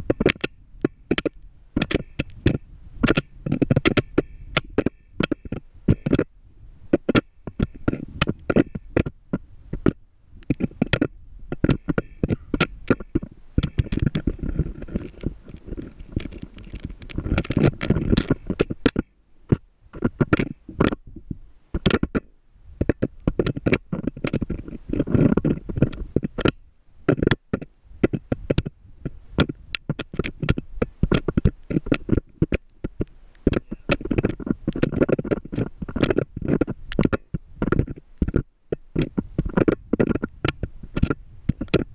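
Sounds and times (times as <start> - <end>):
camera knocking against rock walls: 0.0 - 6.3, 6.9 - 41.9.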